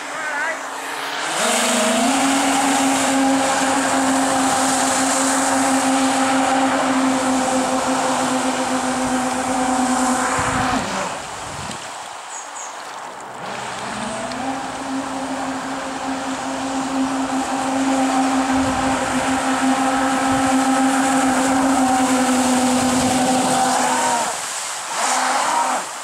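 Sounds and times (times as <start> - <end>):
water spray hissing: 0.6 - 12.7, 13.3 - 26.0
electric motor whine: 0.7 - 11.5, 13.4 - 25.9.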